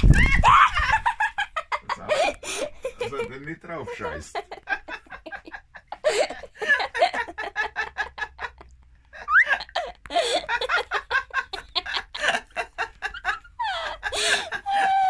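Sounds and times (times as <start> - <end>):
person laughing hard: 0.0 - 15.0.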